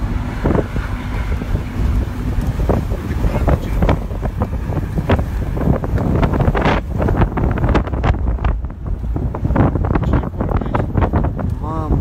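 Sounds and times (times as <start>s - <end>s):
strong wind on microphone: 0.0s - 12.0s.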